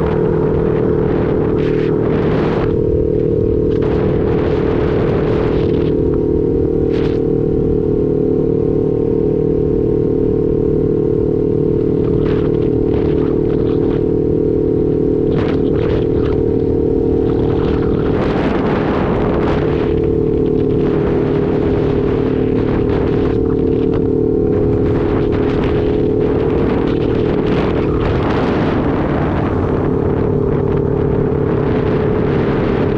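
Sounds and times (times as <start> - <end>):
motorcycle engine running: 0.0 - 32.9
wind noise on microphone: 0.0 - 32.9.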